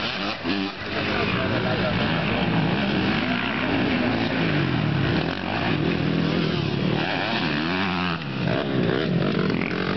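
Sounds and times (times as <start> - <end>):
dirt bike engines revving: 0.0 - 9.9
dirt bike passing by: 0.0 - 9.9.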